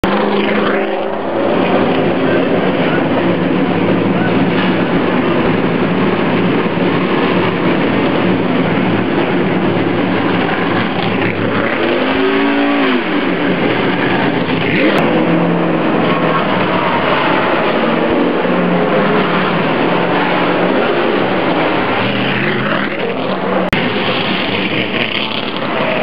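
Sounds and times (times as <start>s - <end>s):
engine revving: 0.0s - 26.0s
race car engines running: 0.0s - 26.0s.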